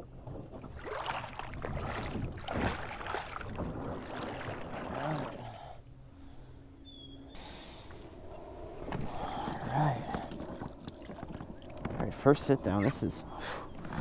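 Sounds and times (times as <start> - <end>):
water sloshing and splashing: 0.0 - 6.4, 7.4 - 14.0.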